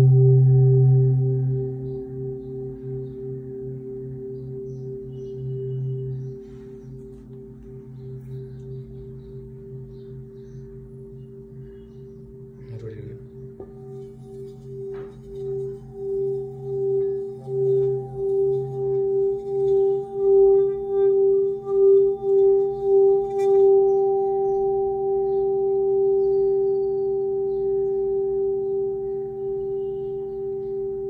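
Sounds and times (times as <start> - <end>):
singing bowl humming: 0.0 - 31.0.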